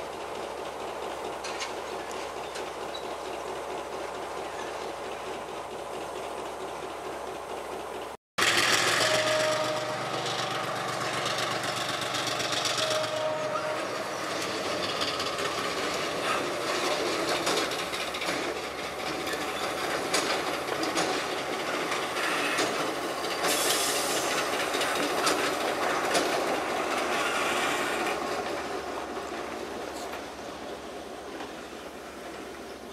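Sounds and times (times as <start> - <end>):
diesel locomotive engines running: 0.0 - 32.9
wheels clicking over rail joints: 0.0 - 32.9.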